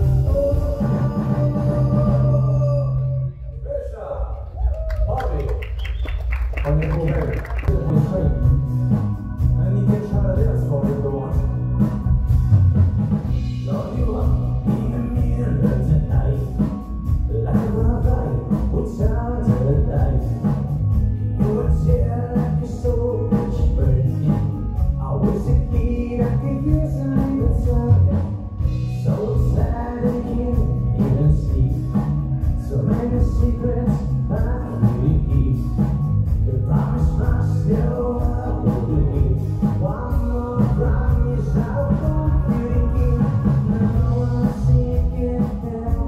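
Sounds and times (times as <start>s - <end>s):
live band playing: 0.0s - 3.6s, 5.2s - 46.0s
man singing: 0.0s - 3.7s, 6.7s - 8.8s, 9.6s - 11.6s, 13.6s - 20.7s, 21.3s - 46.0s.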